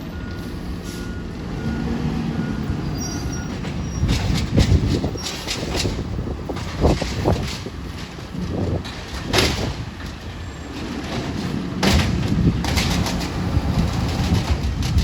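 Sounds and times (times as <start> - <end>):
garbage truck engine rumble: 0.0 - 15.0.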